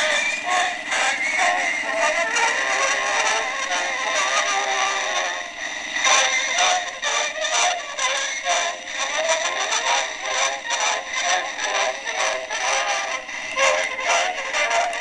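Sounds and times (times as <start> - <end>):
thin tinny phonograph music: 0.0 - 15.0.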